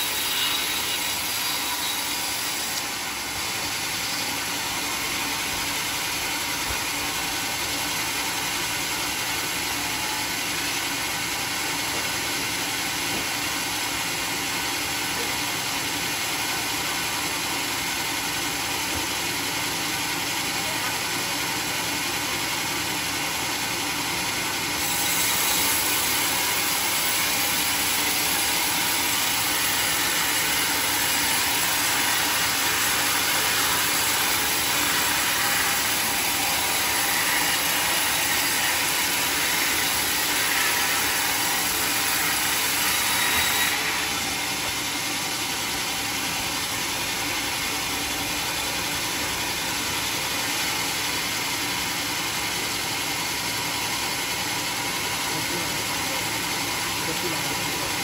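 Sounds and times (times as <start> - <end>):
circular saw sawmill running: 0.0 - 58.0.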